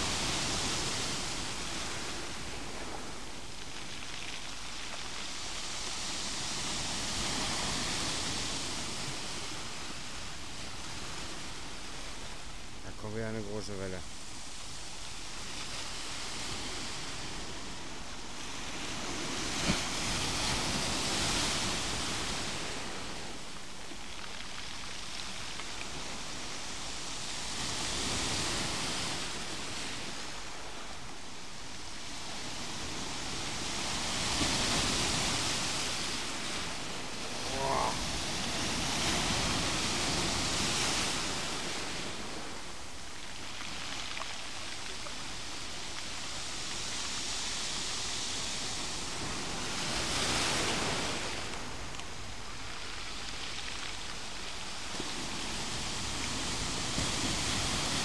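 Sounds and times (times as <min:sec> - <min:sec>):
foamy hiss of receding water: 0:00.0 - 0:58.0
sea waves breaking over rocks: 0:00.0 - 0:58.0.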